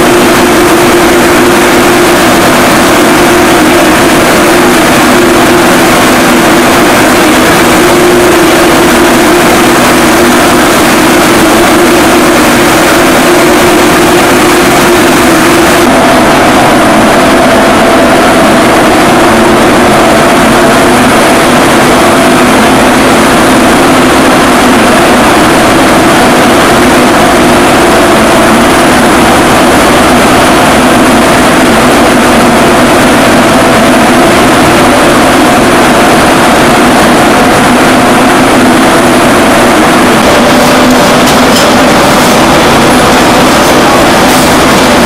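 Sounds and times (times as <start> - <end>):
spinning mill machinery drone: 0.0 - 45.0.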